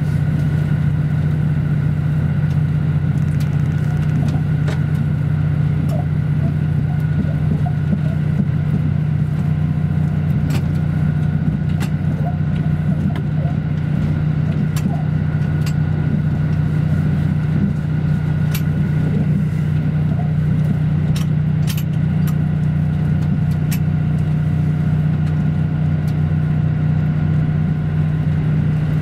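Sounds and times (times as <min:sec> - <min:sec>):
diesel railcar drone: 0:00.0 - 0:29.0.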